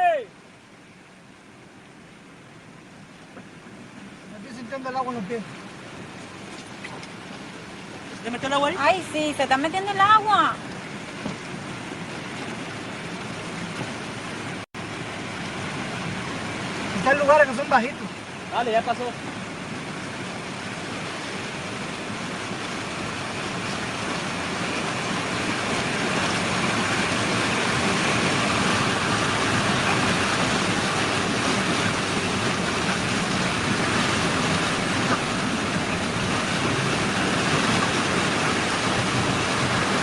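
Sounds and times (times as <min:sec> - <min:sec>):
water rushing around car: 0:00.0 - 0:40.0.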